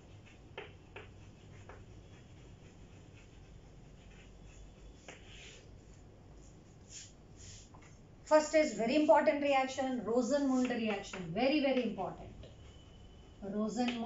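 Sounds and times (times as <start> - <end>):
chalk scratching on chalkboard: 0.0 - 13.2
chalk tapping: 0.0 - 14.0.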